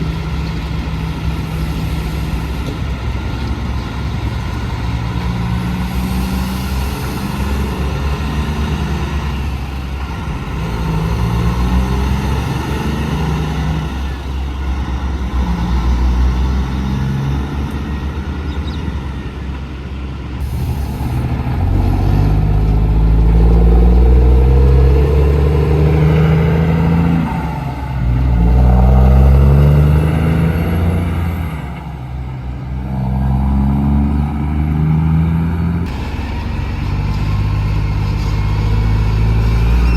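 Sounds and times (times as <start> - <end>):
diesel trucks shifting gears: 0.0 - 39.9.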